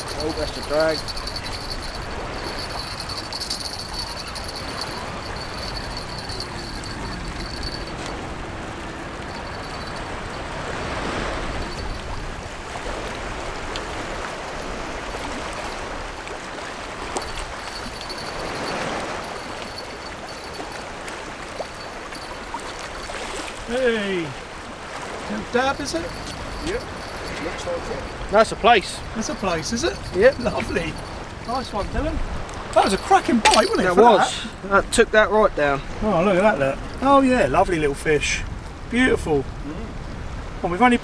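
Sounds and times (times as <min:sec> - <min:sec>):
sea water lapping against jetty: 0:00.0 - 0:34.6.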